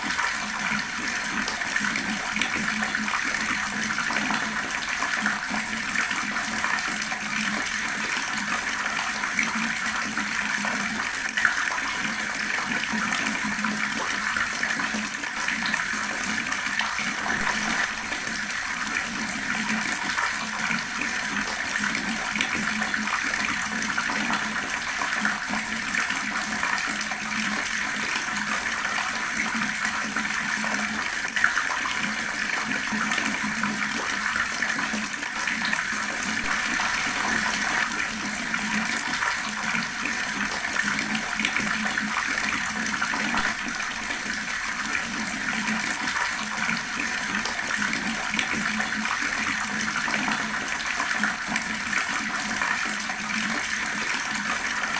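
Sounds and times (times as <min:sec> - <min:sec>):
water tap running: 0:00.1 - 0:54.9.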